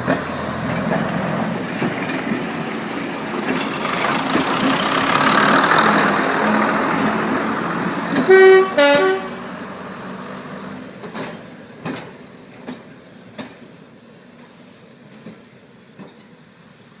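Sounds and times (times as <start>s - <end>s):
train wheels clicking over track: 0.0s - 8.5s, 9.8s - 17.0s
diesel railcar engine: 0.0s - 17.0s.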